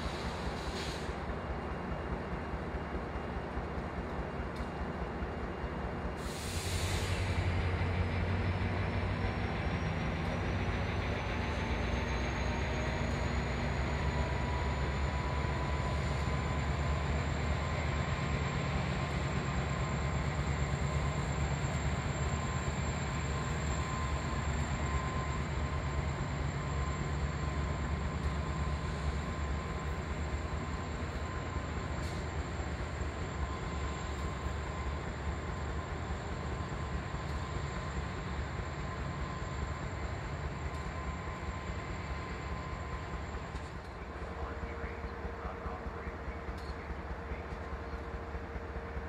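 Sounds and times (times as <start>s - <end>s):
locomotive engine humming: 0.0s - 49.0s.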